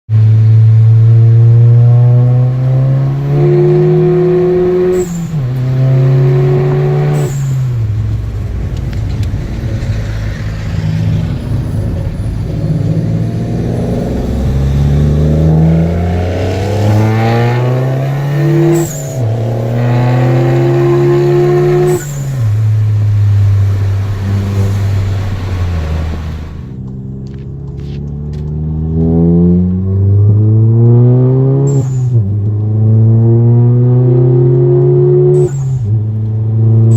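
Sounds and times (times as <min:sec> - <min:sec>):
car engine accelerating hard: 0:00.1 - 0:36.9.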